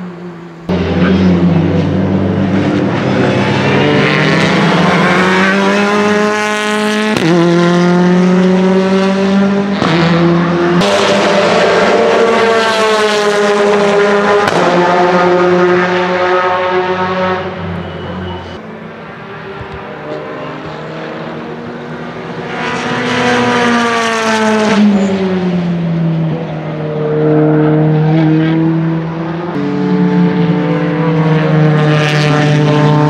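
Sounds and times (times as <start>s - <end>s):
race car accelerating: 0.0s - 33.0s.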